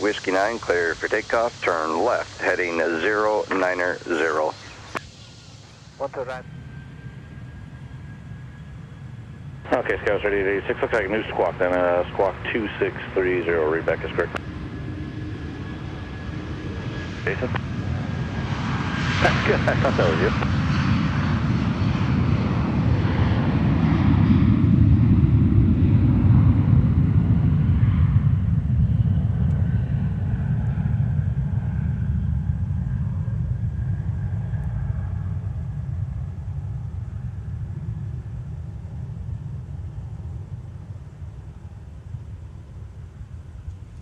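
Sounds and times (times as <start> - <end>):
jet engines roaring at takeoff: 0.0 - 44.0.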